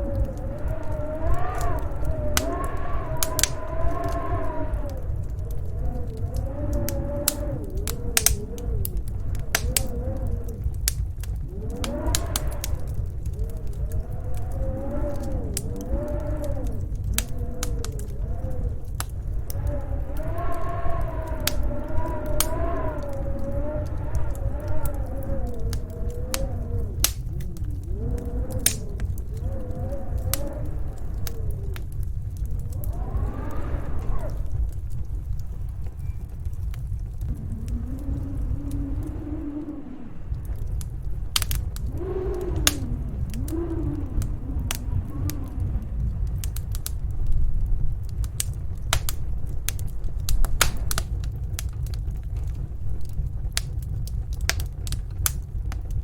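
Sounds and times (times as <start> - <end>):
howling storm wind: 0.0 - 56.0
steady low rumble: 0.0 - 56.0
wood fire crackling and popping: 0.0 - 56.0.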